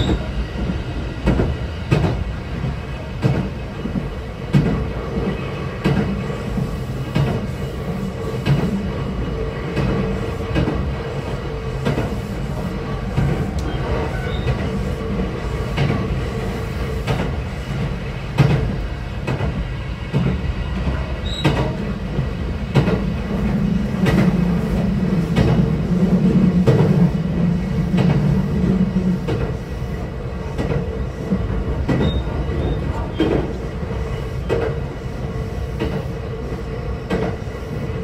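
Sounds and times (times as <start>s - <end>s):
rail clicks: 0.0s - 38.0s
train wheels rumbling on rail: 0.0s - 38.0s.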